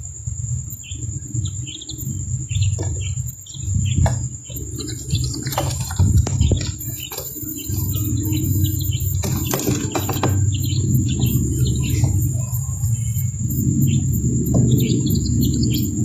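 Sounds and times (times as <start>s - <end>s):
loud low hum: 0.0s - 16.0s
thin high whine: 0.0s - 16.0s
quail chick peeping: 0.4s - 16.0s.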